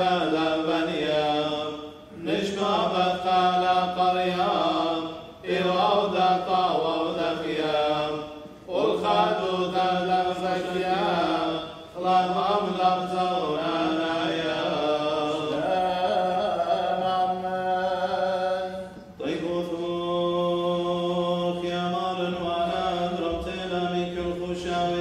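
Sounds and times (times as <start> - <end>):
men chanting liturgy: 0.0 - 25.0.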